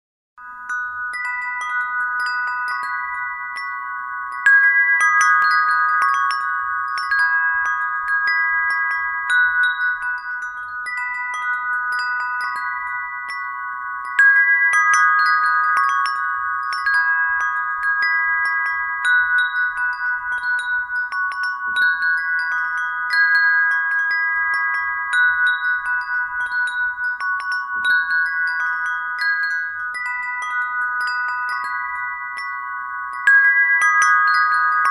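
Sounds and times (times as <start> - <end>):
brass wind bells ringing: 0.4 - 34.9.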